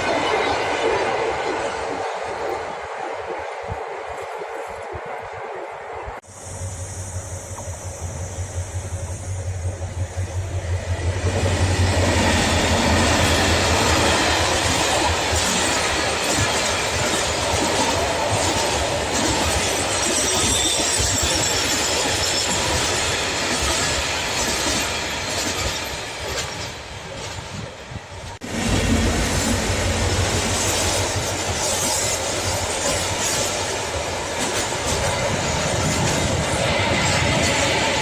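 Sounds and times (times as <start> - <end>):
train wagons rumbling on rails: 6.1 - 38.0.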